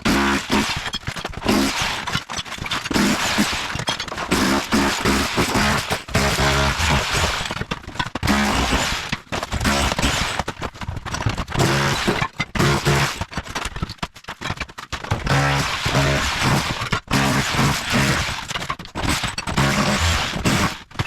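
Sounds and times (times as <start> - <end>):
rotary hammer chiseling tile: 0.0 - 21.0
broken tile pieces scraping: 0.6 - 21.0.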